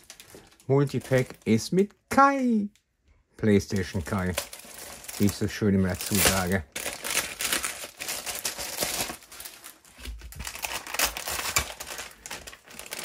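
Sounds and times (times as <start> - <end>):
packaging rustling and crackling: 0.0 - 1.7, 3.6 - 13.0.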